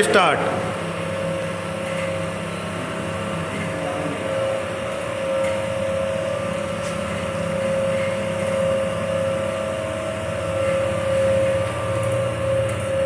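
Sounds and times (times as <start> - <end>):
mid-pitched machine whine: 0.0 - 13.0
oil press motor hum: 0.0 - 13.0.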